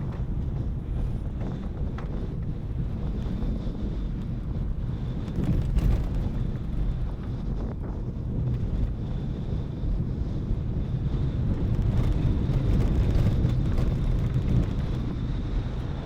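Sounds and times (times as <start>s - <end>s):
car engine and tyres rumbling: 0.0s - 16.0s
wind noise: 0.0s - 16.0s.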